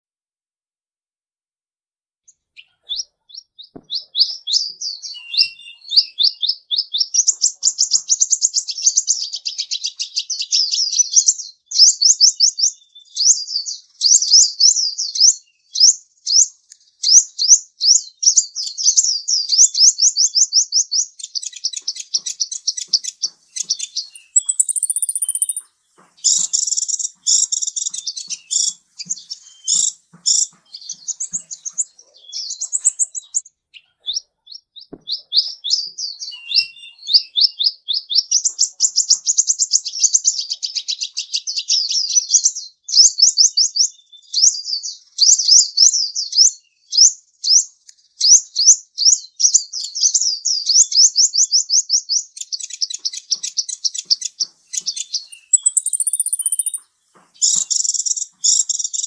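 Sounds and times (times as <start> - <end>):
bird chirping: 2.2 - 59.0.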